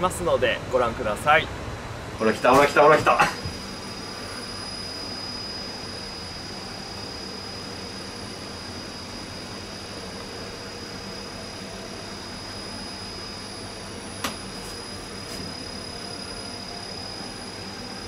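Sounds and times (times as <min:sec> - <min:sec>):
machine hum with high whine: 0:00.0 - 0:18.0.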